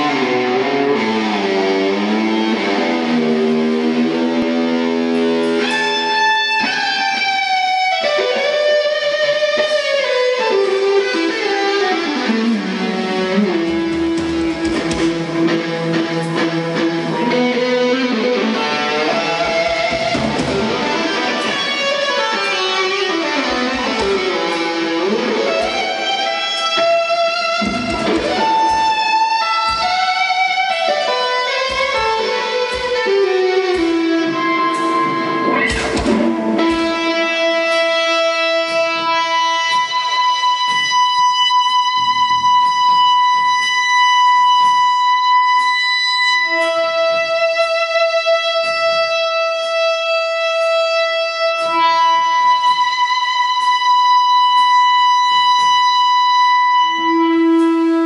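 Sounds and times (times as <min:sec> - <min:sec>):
electric guitar lead line: 0:00.0 - 0:58.0.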